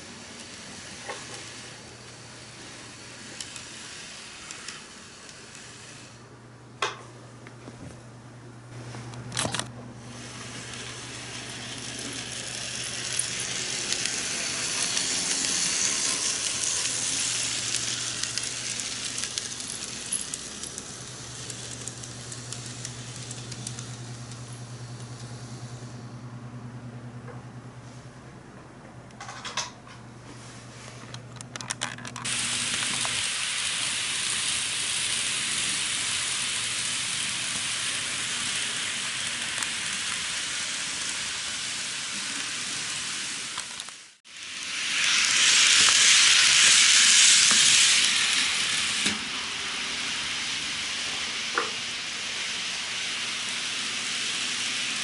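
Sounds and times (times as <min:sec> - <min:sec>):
model train motor hum: 0:00.0 - 0:06.2, 0:09.4 - 0:26.0, 0:32.2 - 0:55.0.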